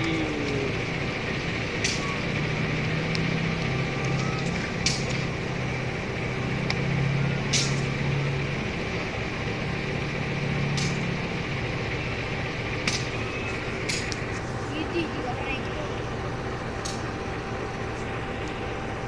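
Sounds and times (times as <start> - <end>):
diesel train engine idling: 0.0 - 19.0.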